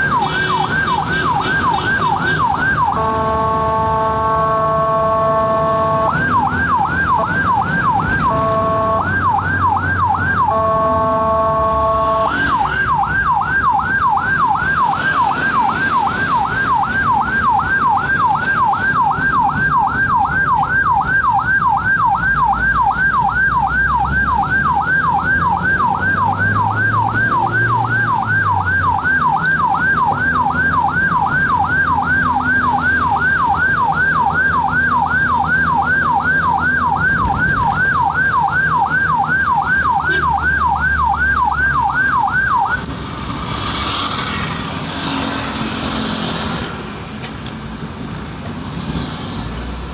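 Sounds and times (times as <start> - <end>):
ambulance siren: 0.0 - 46.6.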